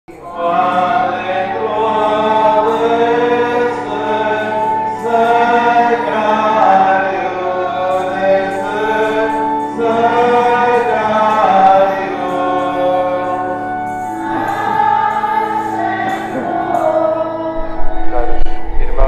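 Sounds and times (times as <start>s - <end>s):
choir singing slow melody: 0.1s - 19.0s.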